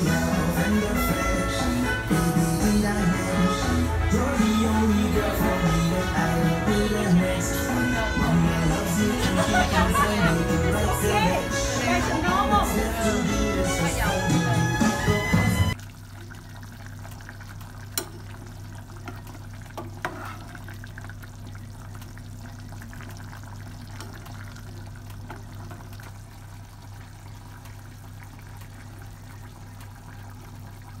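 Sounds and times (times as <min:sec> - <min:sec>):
stew simmering: 0:00.0 - 0:31.0.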